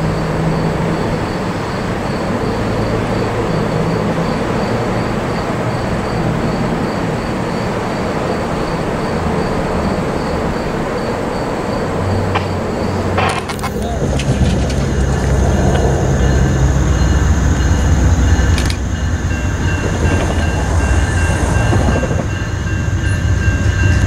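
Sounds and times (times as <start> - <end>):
locomotive engine drone: 0.0 - 24.0
train cars rolling: 0.0 - 24.0.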